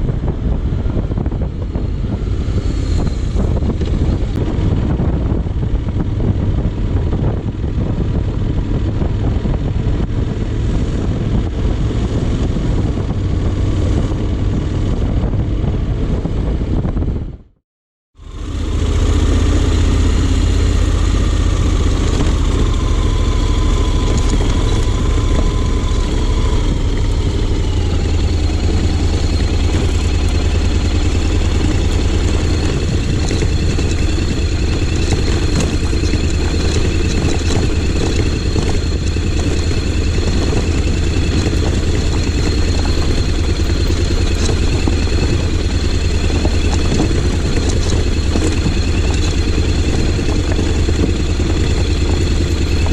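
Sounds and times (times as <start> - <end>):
motorcycle engine running: 0.0 - 17.6, 18.2 - 52.9.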